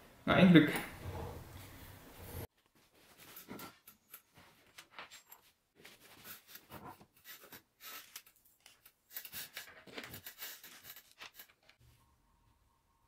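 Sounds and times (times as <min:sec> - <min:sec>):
mould parts scraping and rubbing: 0:00.9 - 0:11.8.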